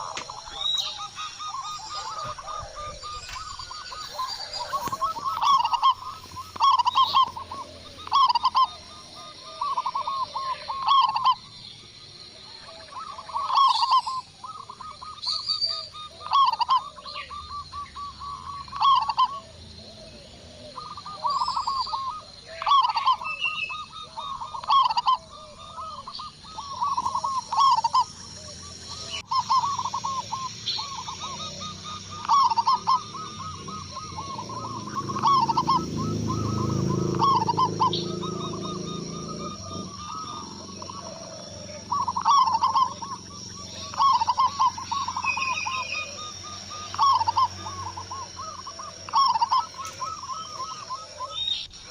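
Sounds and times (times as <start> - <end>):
doves cooing: 0.0 - 51.9
small birds chirping: 0.0 - 51.9.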